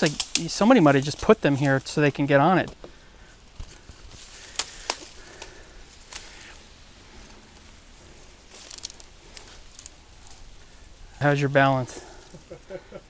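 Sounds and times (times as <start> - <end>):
footsteps through reeds and brush: 0.0 - 13.0
stalks crackling and snapping: 0.0 - 13.0.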